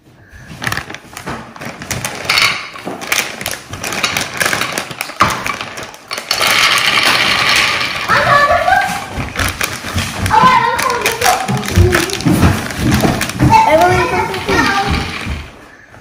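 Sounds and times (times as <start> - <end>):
plastic bag crinkling: 0.6 - 15.6
candies rattling into ceramic dish: 1.6 - 15.5.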